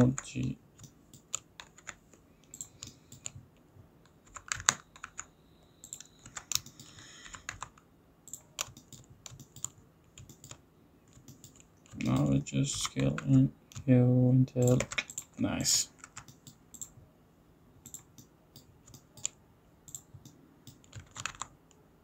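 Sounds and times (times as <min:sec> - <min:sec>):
computer keyboard clicks: 0:00.0 - 0:03.4, 0:04.2 - 0:13.8, 0:14.6 - 0:15.4, 0:16.0 - 0:17.0, 0:17.8 - 0:21.8.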